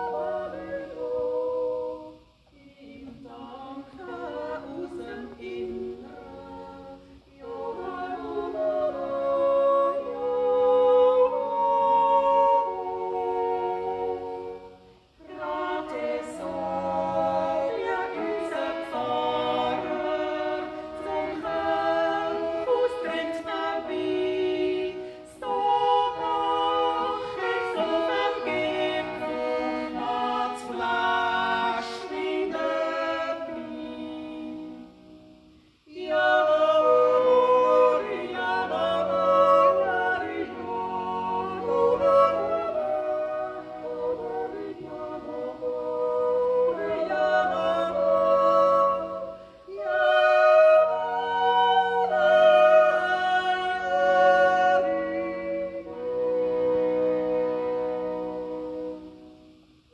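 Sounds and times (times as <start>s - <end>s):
women yodeling in harmony: 0.0s - 59.9s.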